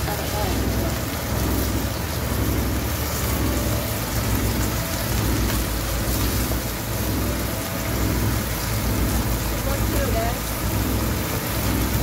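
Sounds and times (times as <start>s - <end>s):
food sizzling in a pan: 0.0s - 12.0s
low hum: 0.0s - 12.0s.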